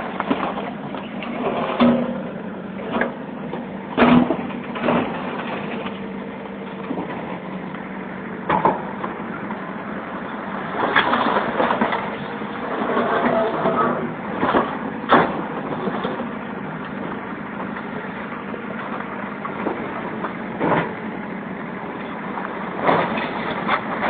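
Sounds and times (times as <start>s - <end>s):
backhoe engine running: 0.0s - 24.0s.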